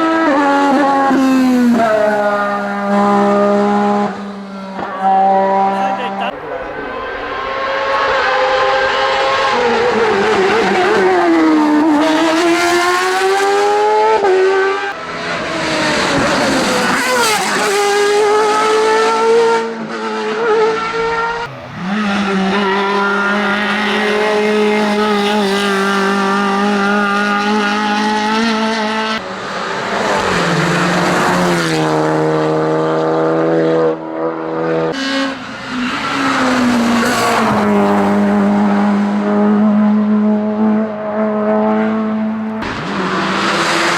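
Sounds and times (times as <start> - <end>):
race car engines at full throttle: 0.0 - 43.9.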